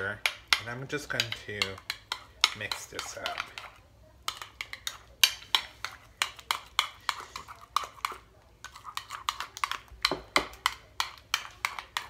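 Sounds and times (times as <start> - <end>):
utensil clicking against ceramic bowl: 0.2 - 3.7, 4.3 - 12.0.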